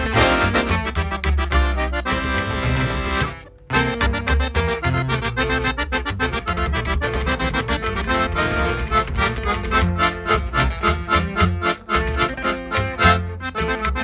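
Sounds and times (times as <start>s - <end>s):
button accordion lead: 0.0s - 14.0s
strummed twelve-string guitar: 0.0s - 14.0s
upright bass: 0.0s - 14.0s.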